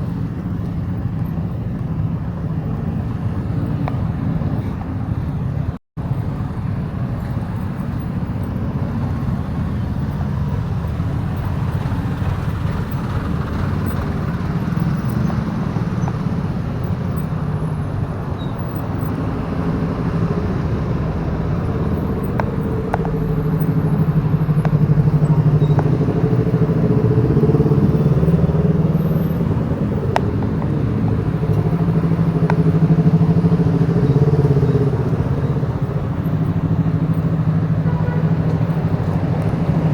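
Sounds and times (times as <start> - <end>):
wind and road noise: 0.0 - 39.9
motorcycle engine running: 6.4 - 39.9.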